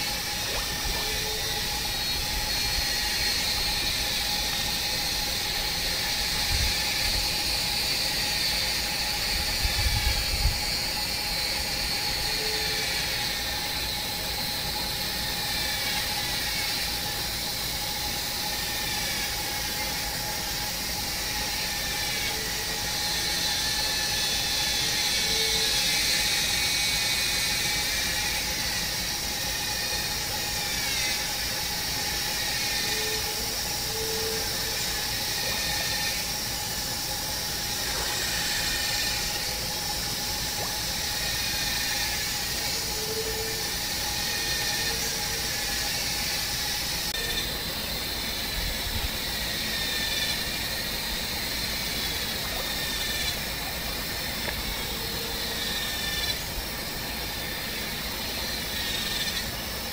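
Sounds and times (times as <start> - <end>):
high-pitched buzzing rattling drone: 0.0 - 59.9.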